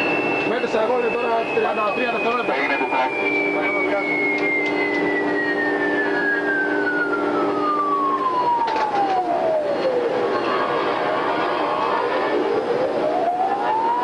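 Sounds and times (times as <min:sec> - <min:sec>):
high whine falling in pitch: 0:00.0 - 0:14.0
steady low hum: 0:00.0 - 0:14.0.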